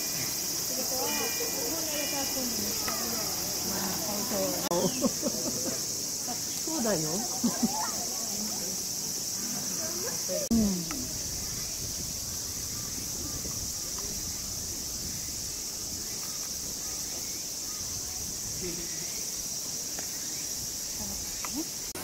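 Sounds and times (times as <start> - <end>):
faint distant voices: 0.0 - 22.0
high-pitched insect chorus: 0.0 - 22.0.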